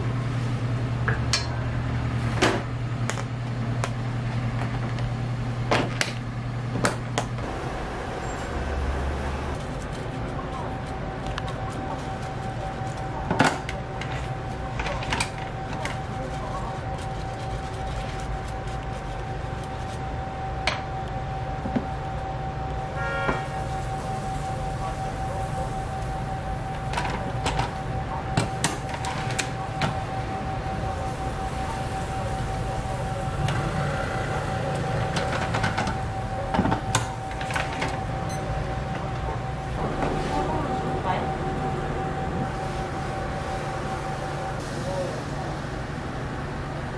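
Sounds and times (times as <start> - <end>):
machinery humming: 0.0 - 46.9
thin electrical whine: 7.1 - 46.9.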